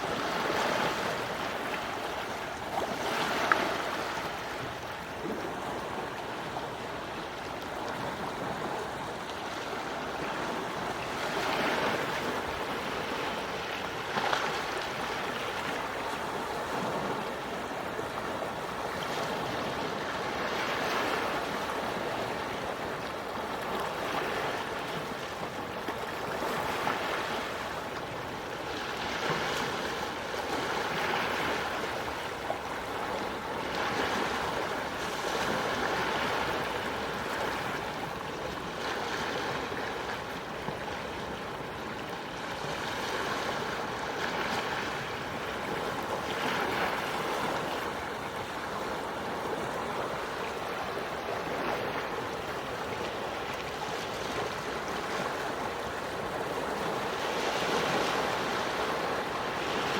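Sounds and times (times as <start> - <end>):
small waves breaking on shore: 0.0 - 59.9.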